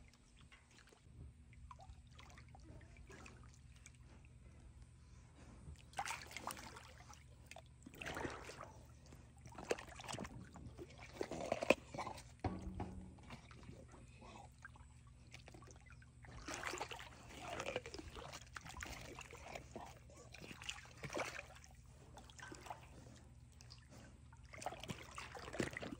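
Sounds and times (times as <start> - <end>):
water sloshing and splashing: 0.0 - 5.0, 5.6 - 25.9.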